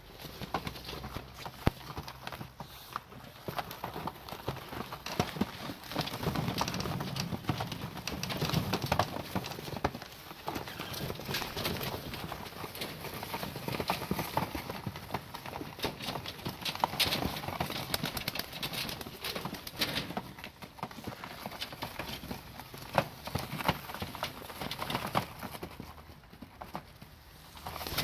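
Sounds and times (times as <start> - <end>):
pigeons flapping: 0.0 - 28.0.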